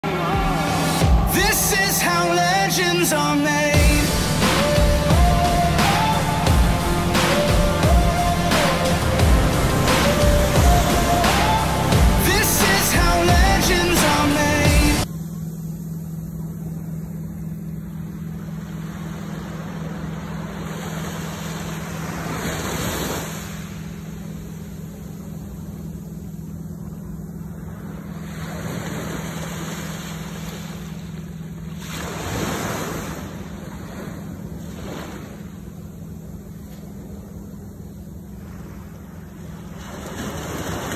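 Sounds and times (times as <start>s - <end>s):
ocean surf on a beach: 0.0s - 15.0s, 18.0s - 25.8s, 27.5s - 40.9s.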